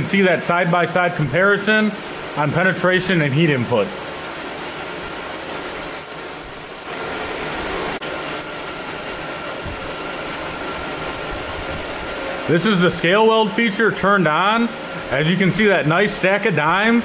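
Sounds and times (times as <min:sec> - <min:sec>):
laser welder hissing: 0:00.0 - 0:17.0.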